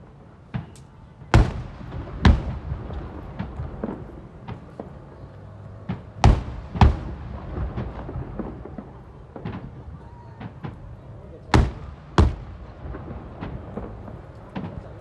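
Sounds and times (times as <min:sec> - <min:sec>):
fireworks shells booming: 0:00.4 - 0:15.0
scattered fireworks pops: 0:00.4 - 0:15.0.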